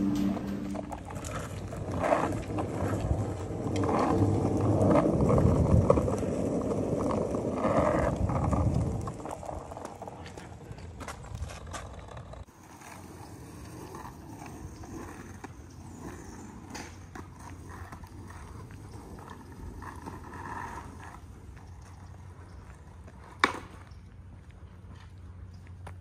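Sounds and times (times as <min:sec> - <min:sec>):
skateboard wheels rolling on asphalt: 0:00.0 - 0:26.0
skateboard clacking on pavement: 0:00.8 - 0:26.0.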